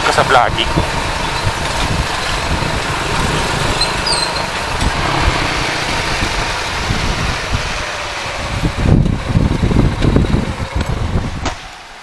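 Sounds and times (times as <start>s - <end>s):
motorcycle engine humming: 0.0s - 11.7s.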